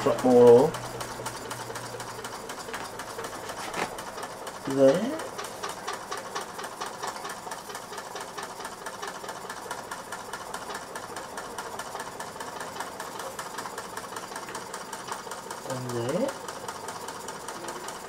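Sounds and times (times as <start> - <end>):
model steam engine running: 0.0 - 18.0.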